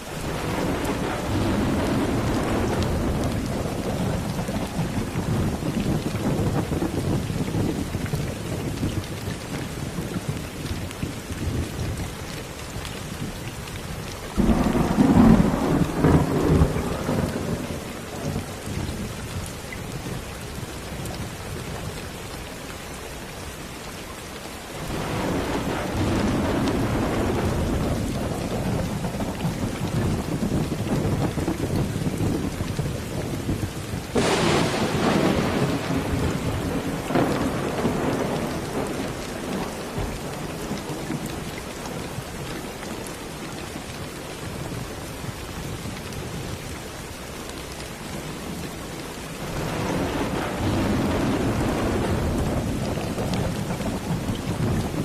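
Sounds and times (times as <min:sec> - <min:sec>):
thunder rumbling: 0:00.0 - 0:22.2, 0:24.7 - 0:46.6, 0:47.6 - 0:55.0
steady rain falling: 0:00.0 - 0:55.0.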